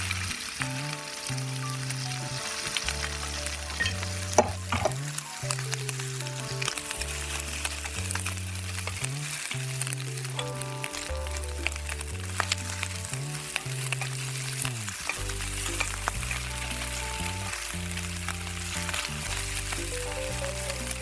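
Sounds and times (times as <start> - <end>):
meat sizzling in frying pan: 0.0 - 21.0
soft background music: 0.0 - 21.0
tongs turning meat: 0.1 - 21.0.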